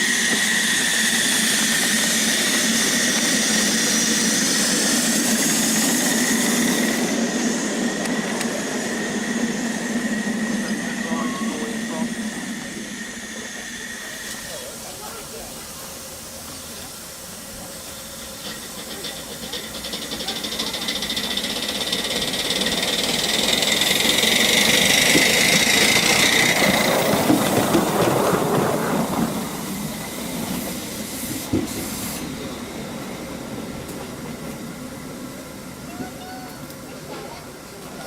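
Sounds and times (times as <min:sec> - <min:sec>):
steam hissing: 0:00.0 - 0:38.0
steam locomotive exhaust beats: 0:00.0 - 0:38.0.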